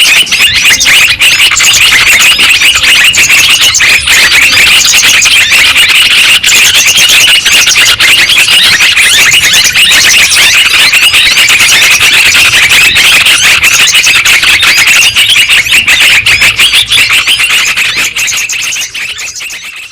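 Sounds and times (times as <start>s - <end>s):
birds chirping chatter: 0.0s - 19.9s.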